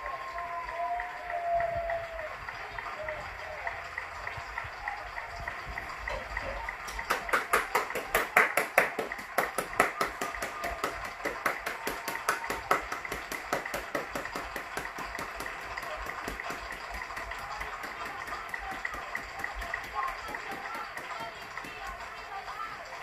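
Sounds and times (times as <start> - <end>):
people clapping in rhythm: 0.0 - 23.0.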